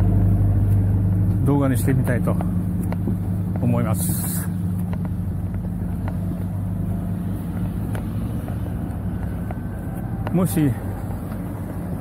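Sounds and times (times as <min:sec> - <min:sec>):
road traffic drone: 0:00.0 - 0:12.0.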